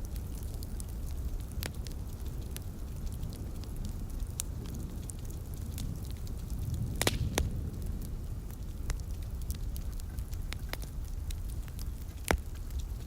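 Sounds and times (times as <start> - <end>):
low fire rumble: 0.0 - 13.0
wood fire popping and snapping: 0.0 - 13.0.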